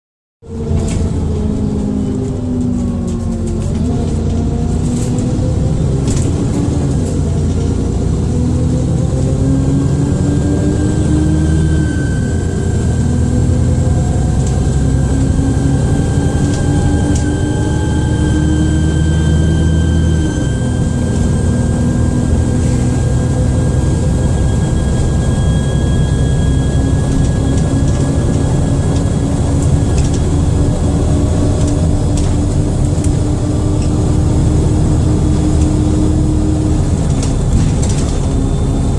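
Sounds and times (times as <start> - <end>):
bus diesel engine: 0.4 - 38.9
turbocharger whine: 0.4 - 38.9.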